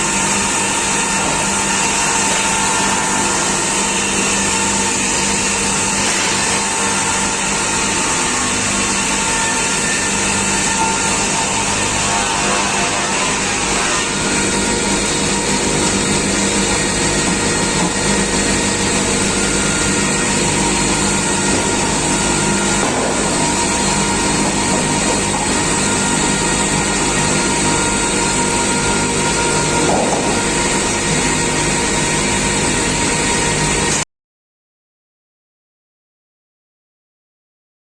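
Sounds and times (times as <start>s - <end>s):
log sawing machine running: 0.0s - 34.0s.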